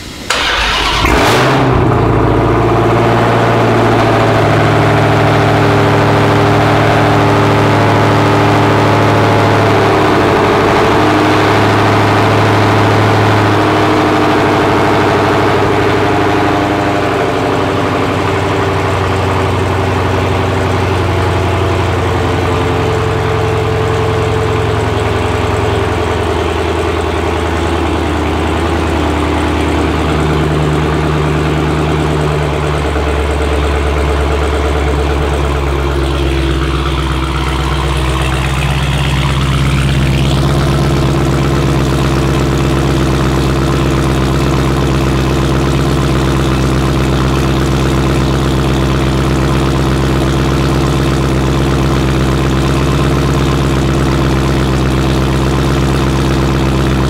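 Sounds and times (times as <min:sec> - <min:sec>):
car exhaust idling: 0:00.0 - 0:57.0.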